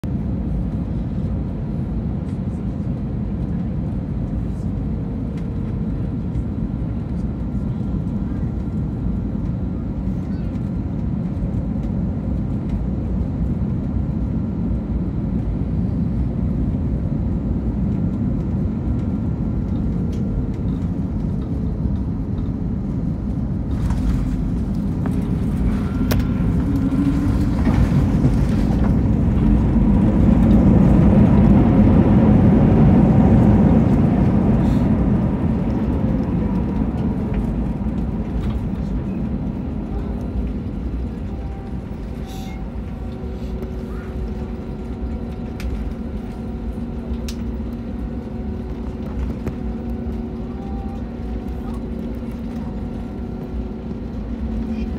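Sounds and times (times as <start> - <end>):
jet engine and airflow noise: 0.0 - 54.9.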